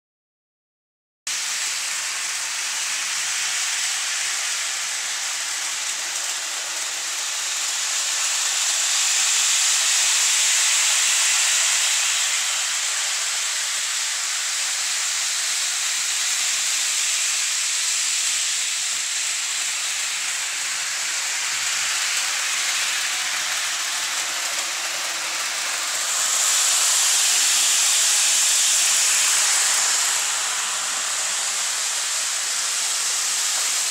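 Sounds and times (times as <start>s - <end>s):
model train high-pitched hiss: 1.3s - 33.9s.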